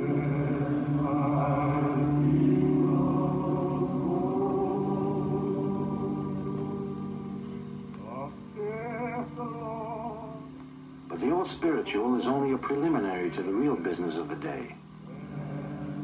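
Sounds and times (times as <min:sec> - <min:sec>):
spiritual sung in held notes: 0:00.0 - 0:16.0.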